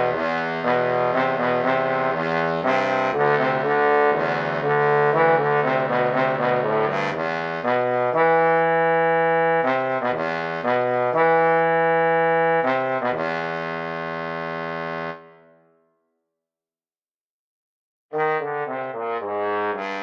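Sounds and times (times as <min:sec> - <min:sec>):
trombone melody: 0:00.0 - 0:15.4, 0:18.1 - 0:20.0.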